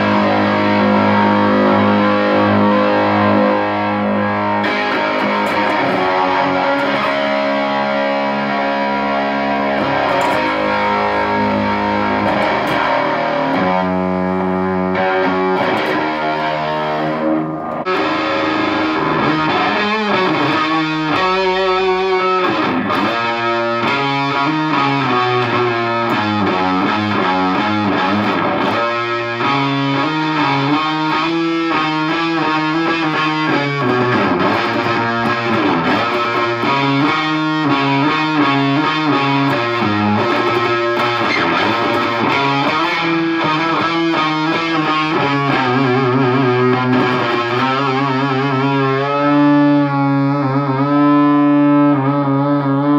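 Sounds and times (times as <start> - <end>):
fuzz distorted electric guitar: 0.0 - 52.9.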